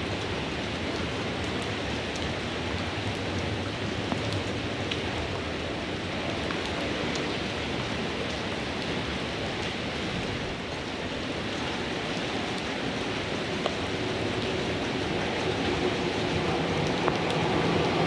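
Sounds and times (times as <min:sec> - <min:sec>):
heavy rain: 0:00.0 - 0:18.0
ticks of close raindrops: 0:00.0 - 0:18.0.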